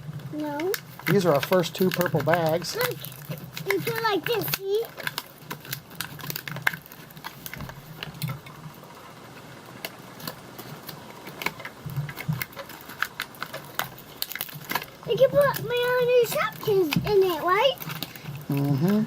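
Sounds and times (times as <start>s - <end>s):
plastic toy pieces clicking: 0.4s - 8.4s, 9.8s - 19.0s.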